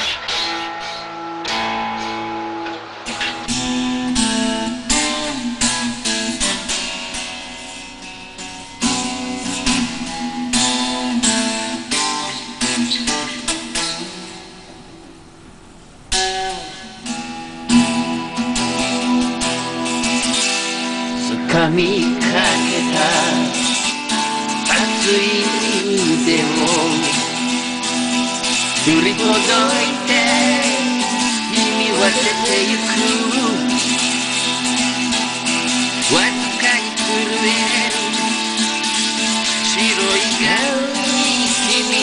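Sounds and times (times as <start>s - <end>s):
acoustic guitar strumming chords: 0.0s - 42.0s.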